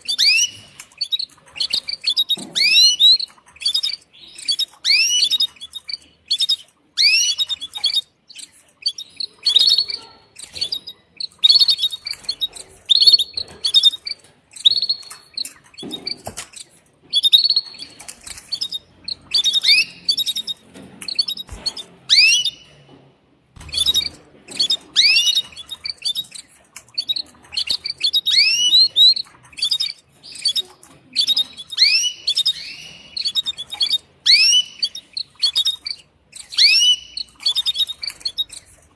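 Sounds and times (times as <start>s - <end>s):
canary chirping: 0.0s - 38.9s.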